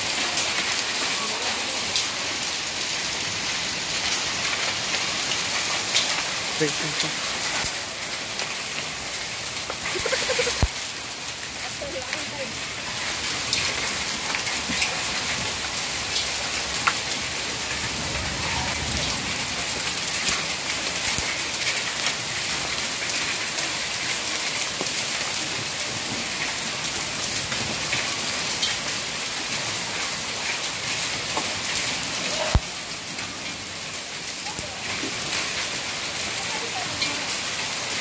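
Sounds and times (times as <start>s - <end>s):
hailstones ticking: 0.0s - 38.0s
heavy rain on pavement: 0.0s - 38.0s.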